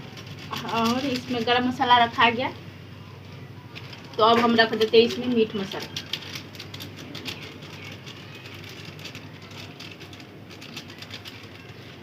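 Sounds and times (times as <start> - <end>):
curry cooking on fire: 0.0 - 12.0.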